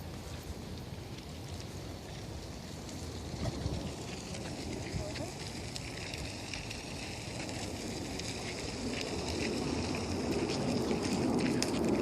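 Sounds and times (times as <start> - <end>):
faint crackles: 0.0 - 12.0.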